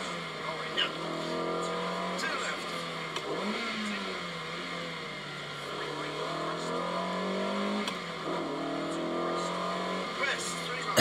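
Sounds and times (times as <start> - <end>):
car engine pulling hard: 0.0 - 11.0.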